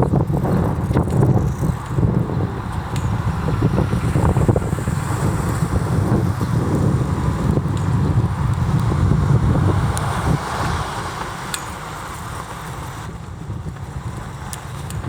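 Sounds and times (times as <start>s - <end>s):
vehicle passing: 0.0s - 15.0s
wind buffeting microphone: 0.0s - 15.0s.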